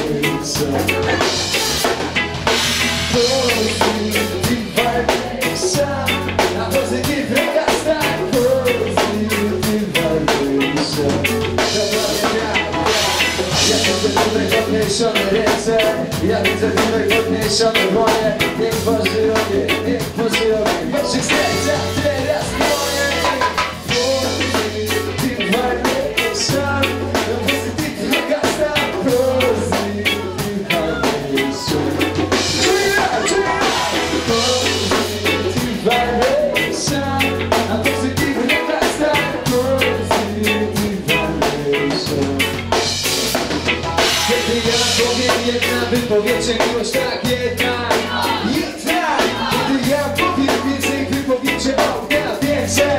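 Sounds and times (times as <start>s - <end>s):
bass line: 0.0s - 52.9s
drum kit beat: 0.0s - 52.9s
electric guitar: 0.0s - 52.9s
keyboard: 0.0s - 52.9s
reggae band playing: 0.0s - 52.9s.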